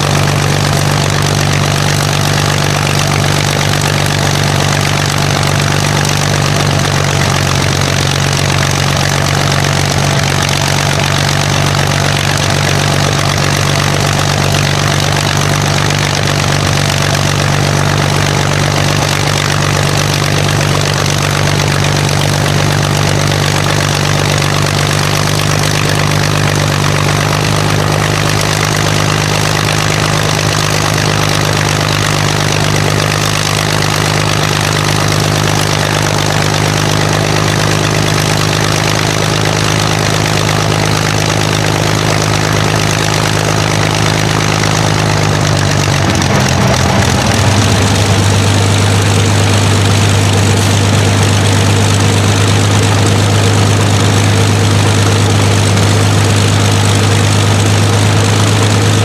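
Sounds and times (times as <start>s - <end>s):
aero engine running: 0.0s - 59.0s.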